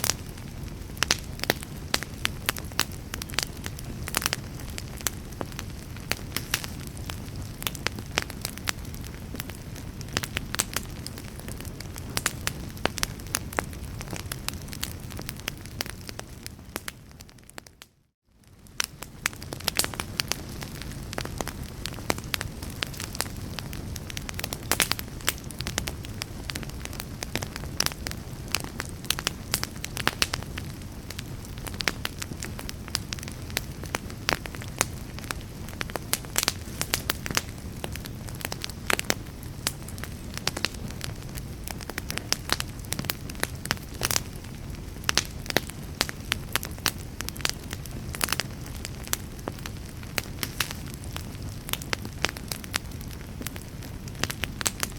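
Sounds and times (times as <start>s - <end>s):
fire crackling and popping: 0.0s - 54.9s
fire rumbling: 0.0s - 54.9s.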